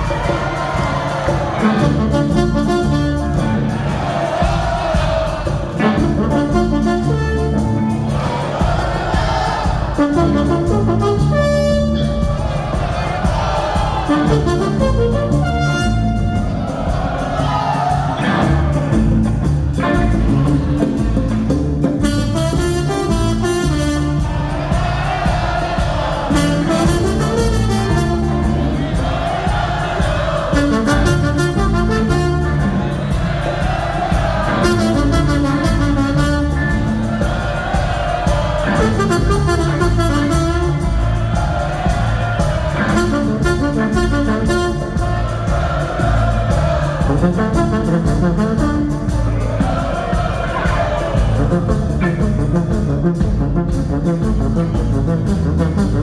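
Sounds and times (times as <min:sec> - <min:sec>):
brass horn section: 0:00.0 - 0:56.0
live ska-punk band: 0:00.0 - 0:56.0.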